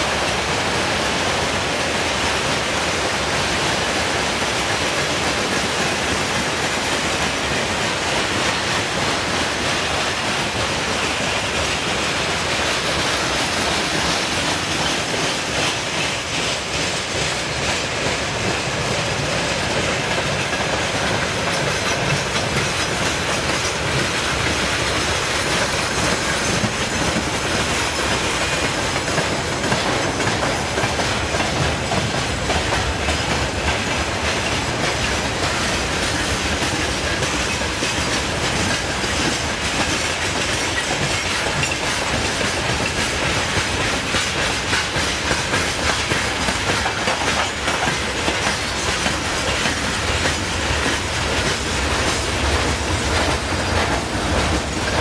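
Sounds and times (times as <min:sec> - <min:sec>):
train rumble and rattle: 0:00.0 - 0:55.0
wheels clicking over rail joints: 0:00.0 - 0:55.0.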